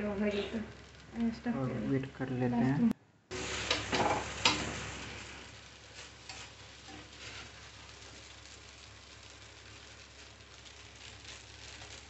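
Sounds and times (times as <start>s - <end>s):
noodles sizzling in oil: 0.0s - 2.2s, 3.3s - 12.0s.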